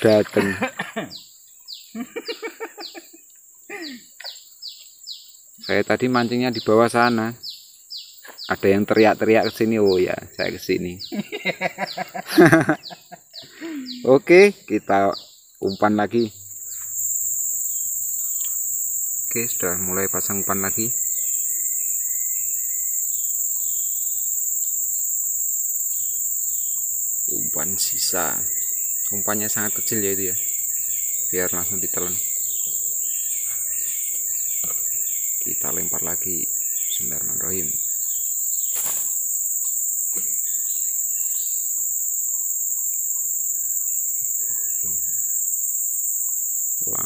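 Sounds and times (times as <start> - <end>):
bird chirps: 0.0 - 24.9, 25.8 - 45.6
insects droning: 0.0 - 47.0.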